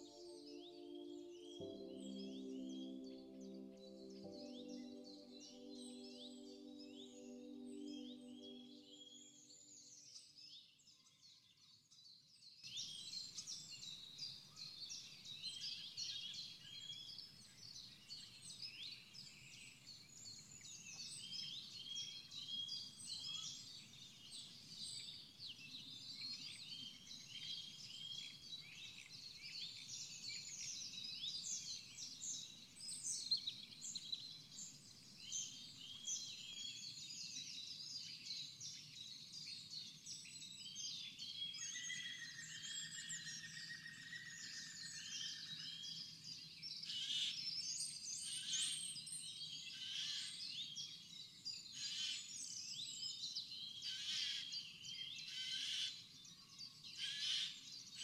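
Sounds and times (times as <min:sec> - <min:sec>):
birds singing: 0:00.0 - 0:09.9, 0:21.0 - 0:58.0.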